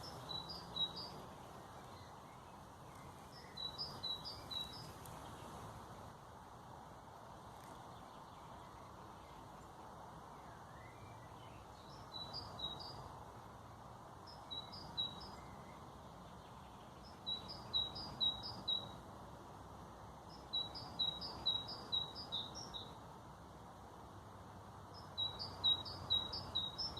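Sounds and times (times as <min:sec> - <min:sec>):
songbird singing: 0:00.0 - 0:06.2, 0:07.0 - 0:26.9
steady background hiss: 0:00.0 - 0:26.9.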